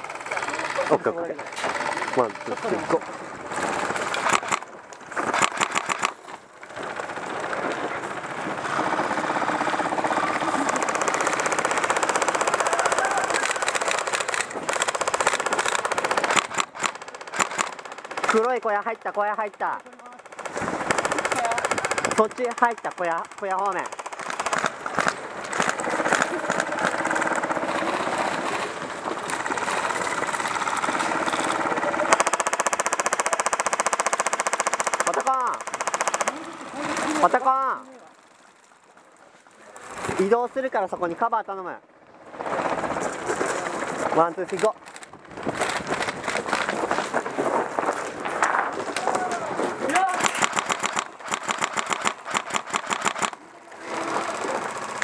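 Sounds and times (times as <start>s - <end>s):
airsoft guns firing full-auto: 0.0s - 38.6s, 42.2s - 55.0s.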